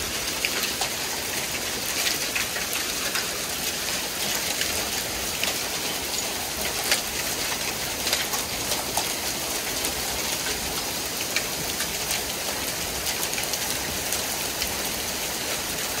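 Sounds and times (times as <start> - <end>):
rain pouring: 0.0 - 16.0.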